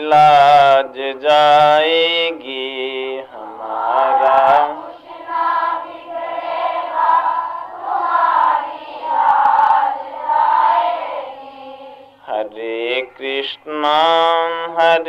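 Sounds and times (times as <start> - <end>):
congregation singing in chorus: 0.0 - 15.0.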